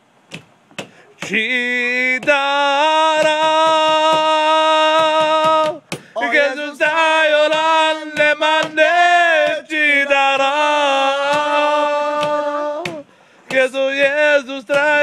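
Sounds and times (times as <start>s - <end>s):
man singing unaccompanied: 1.2s - 15.0s.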